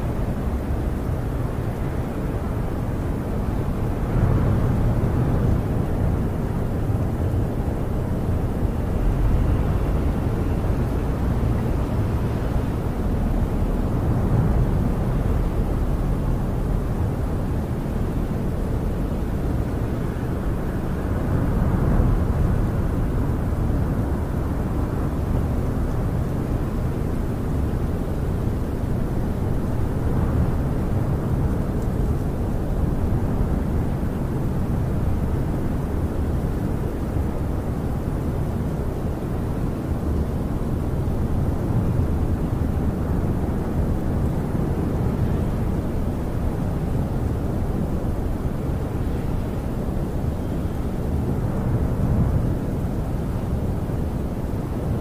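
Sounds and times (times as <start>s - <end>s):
wind gusting against camper: 0.0s - 55.0s.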